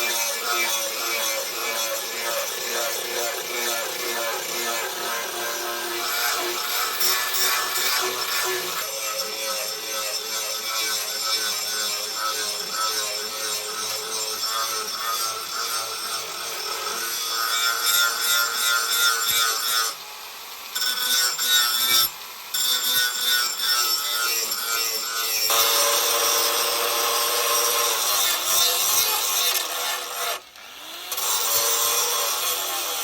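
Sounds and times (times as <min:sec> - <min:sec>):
rasping metal scrape: 0:00.0 - 0:20.0, 0:20.8 - 0:30.4.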